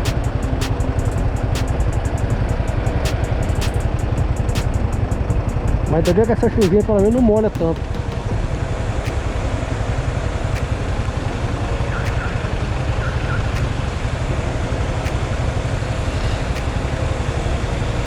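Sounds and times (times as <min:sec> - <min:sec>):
road noise on wet road: 0:00.0 - 0:18.0.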